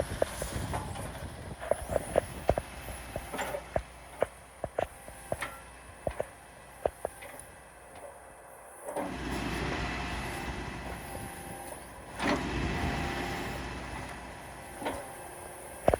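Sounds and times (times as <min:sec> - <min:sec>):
diesel engine: 0:00.0 - 0:15.9.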